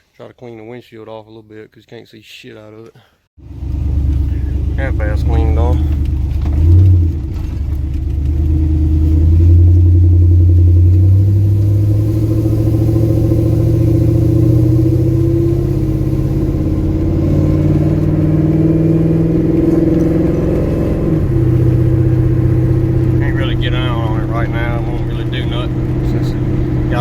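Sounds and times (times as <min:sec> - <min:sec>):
vee-eight truck engine pulling: 0:03.4 - 0:27.0.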